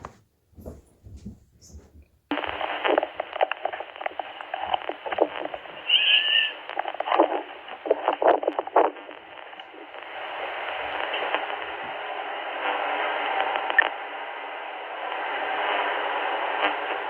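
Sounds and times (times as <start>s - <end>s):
radio static crackling: 0.0s - 17.0s.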